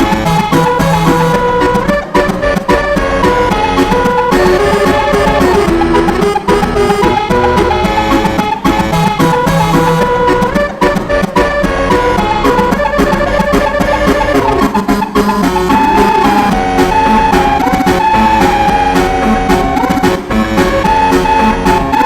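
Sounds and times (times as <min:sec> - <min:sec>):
dance beat: 0:00.0 - 0:22.0
multi-note horn melody: 0:00.0 - 0:22.0.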